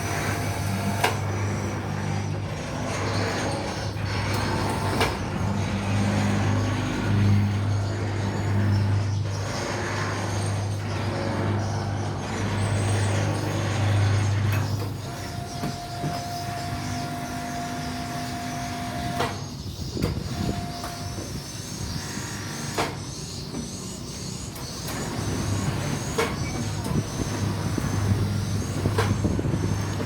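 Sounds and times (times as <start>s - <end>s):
machinery low hum: 0.0s - 30.0s
machinery whine: 0.0s - 30.0s.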